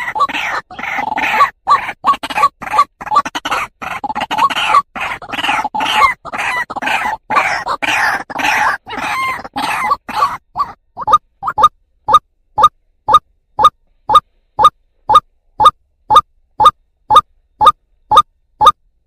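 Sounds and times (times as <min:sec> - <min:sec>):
waterhen calling: 0:00.0 - 0:18.8.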